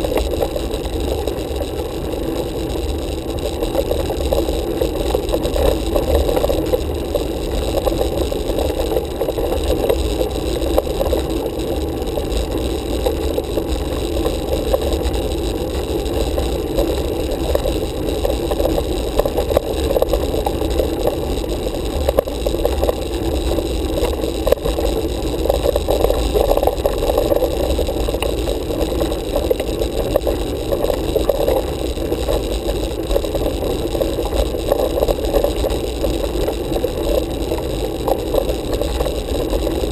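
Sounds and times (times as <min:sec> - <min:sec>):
bike tyre and wind noise: 0:00.0 - 0:39.9.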